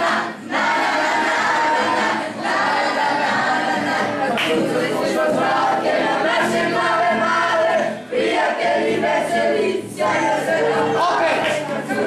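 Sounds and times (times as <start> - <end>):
children singing in chorus: 0.0 - 12.0.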